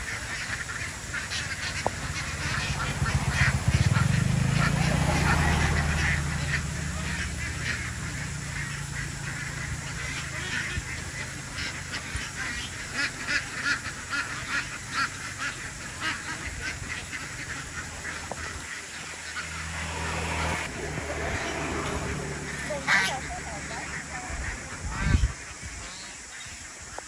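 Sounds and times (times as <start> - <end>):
ducks quacking: 0.0 - 27.0.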